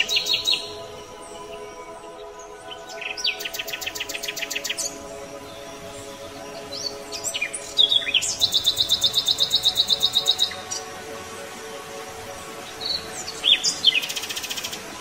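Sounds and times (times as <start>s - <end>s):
bird chirping trills: 0.0s - 11.6s, 12.4s - 15.0s
background music: 0.0s - 15.0s.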